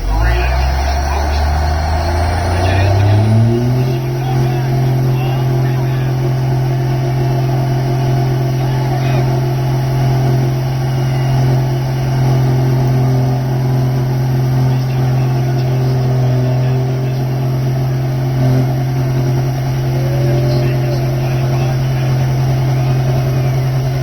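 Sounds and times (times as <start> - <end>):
truck diesel engine revving: 0.0 - 24.0.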